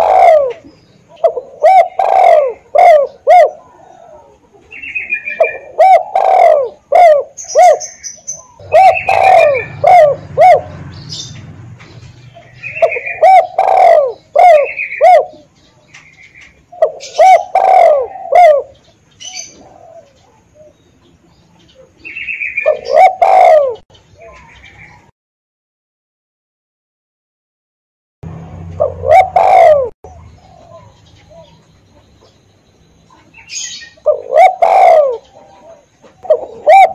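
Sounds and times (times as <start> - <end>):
dove cooing: 0.0 - 11.4, 12.2 - 20.8, 21.7 - 25.1, 28.6 - 32.4, 33.1 - 36.9.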